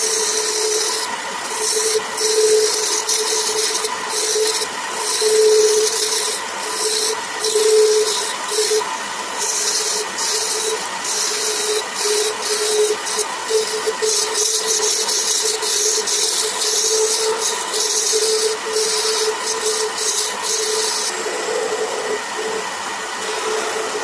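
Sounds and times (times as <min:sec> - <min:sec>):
turning tool hissing cut: 0:00.0 - 0:24.0
wood lathe humming: 0:00.0 - 0:24.0.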